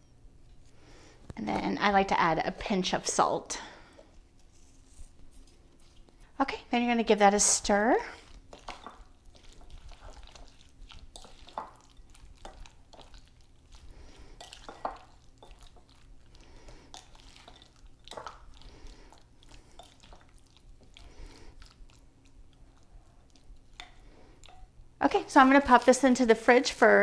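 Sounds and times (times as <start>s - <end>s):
wet squelching of stirring: 0.4s - 27.0s.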